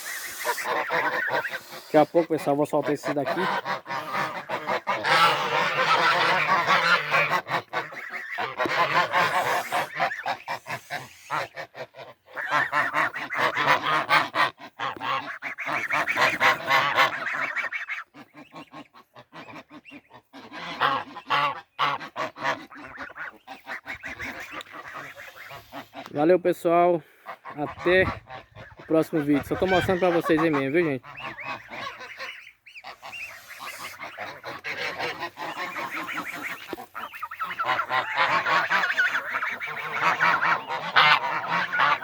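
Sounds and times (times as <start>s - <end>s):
geese honking: 0.0s - 42.0s.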